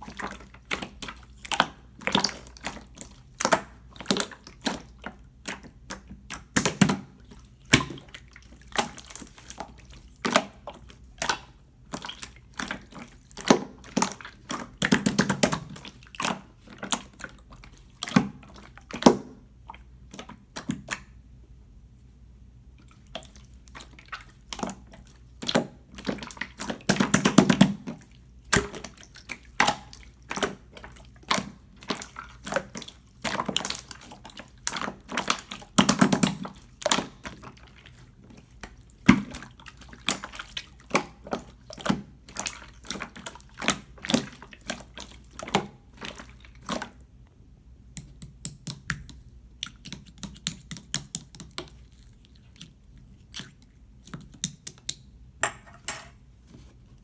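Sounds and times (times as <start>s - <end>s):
slime squishing with wet pops: 0.0s - 21.3s, 22.7s - 55.4s.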